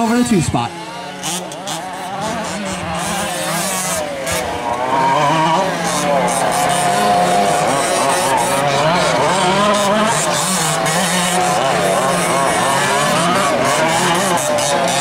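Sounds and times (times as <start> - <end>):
small two-stroke engines revving: 0.0 - 15.0.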